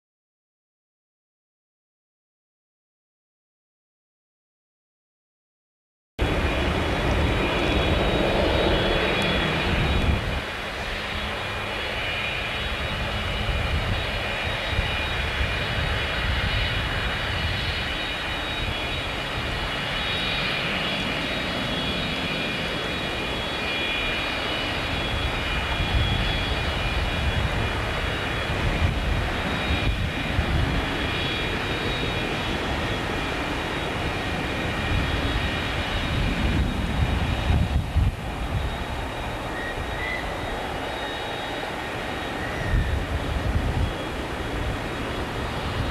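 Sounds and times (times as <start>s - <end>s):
jet engines rumbling with whine: 6.2s - 45.9s.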